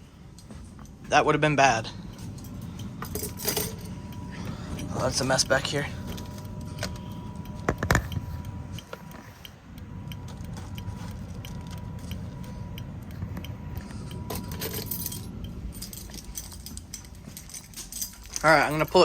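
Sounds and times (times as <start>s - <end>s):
faint ticking: 1.9s - 19.0s.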